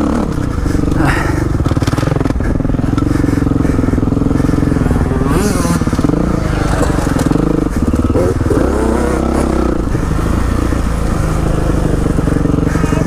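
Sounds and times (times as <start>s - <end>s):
motocross engine under throttle: 0.0s - 13.0s.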